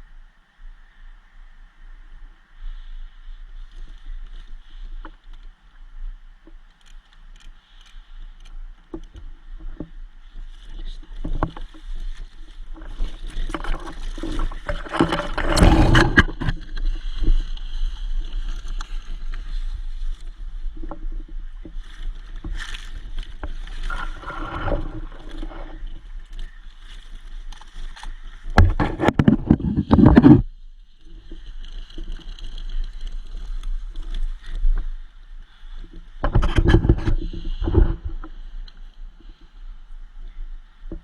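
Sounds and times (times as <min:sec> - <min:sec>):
rustling and scraping on microphone: 0:02.6 - 0:41.0.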